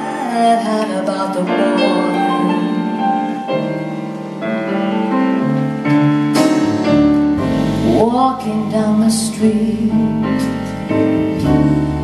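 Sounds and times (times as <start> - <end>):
jazz piano: 0.0 - 12.0.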